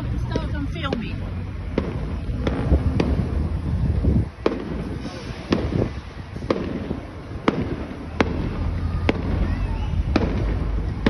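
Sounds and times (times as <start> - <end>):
firework bangs: 0.0 - 11.0
low rumble: 0.0 - 11.0.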